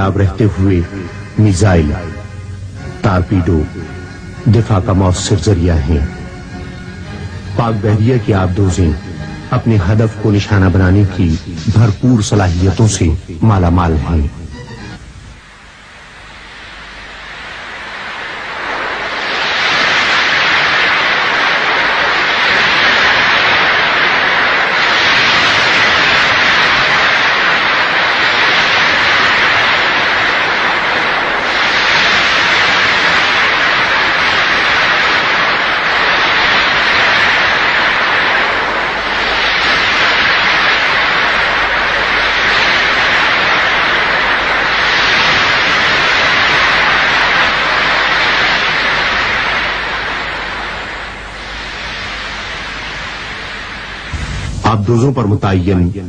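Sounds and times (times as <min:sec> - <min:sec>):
loud rushing noise: 0:00.0 - 0:55.2.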